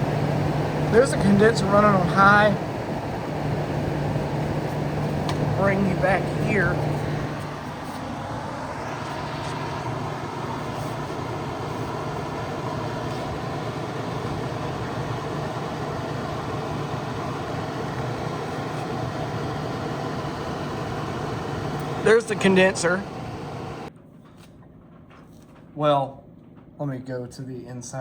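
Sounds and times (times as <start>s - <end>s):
low fan motor hum: 0.0s - 24.0s
air conditioner fan rushing air: 0.0s - 28.0s.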